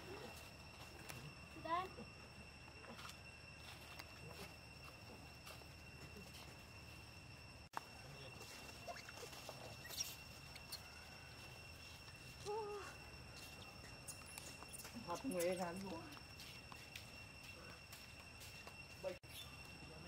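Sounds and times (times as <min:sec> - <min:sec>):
steady high-pitched hum: 0:00.0 - 0:20.0.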